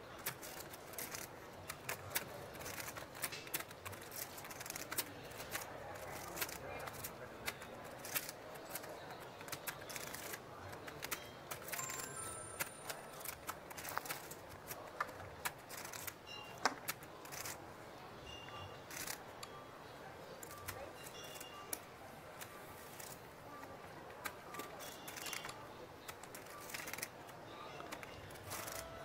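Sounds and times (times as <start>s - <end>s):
poker chips clicking: 0.2s - 17.6s, 18.9s - 19.2s, 20.4s - 29.0s.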